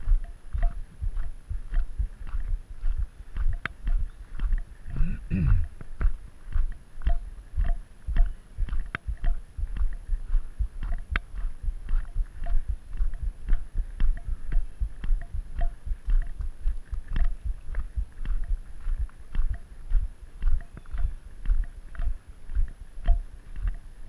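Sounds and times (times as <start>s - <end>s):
footsteps on gravel: 0.0s - 23.8s.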